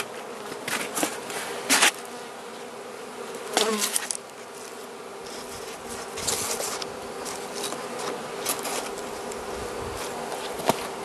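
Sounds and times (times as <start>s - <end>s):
bees humming: 0.0s - 11.0s.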